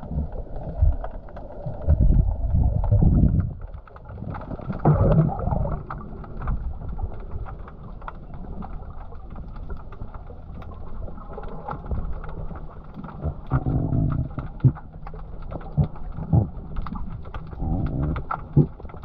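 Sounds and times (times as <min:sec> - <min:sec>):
muffled underwater rumble: 0:00.0 - 0:19.0
underwater clicks and crackles: 0:00.0 - 0:19.0.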